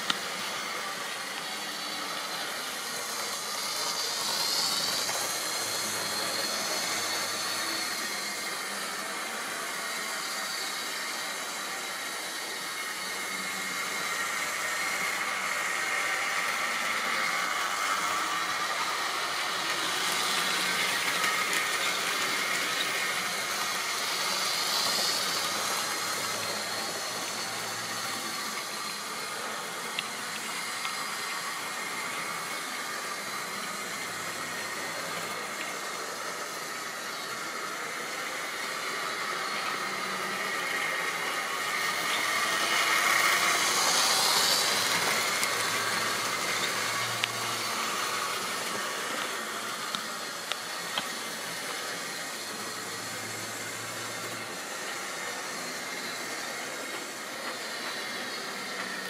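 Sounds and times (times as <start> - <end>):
model train motors whining: 0.0 - 59.0
wheels hissing on rail: 0.0 - 59.0.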